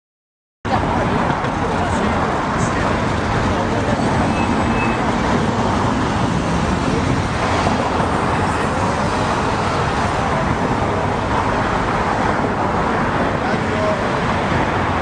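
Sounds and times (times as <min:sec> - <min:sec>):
dense road traffic: 0:00.6 - 0:15.0.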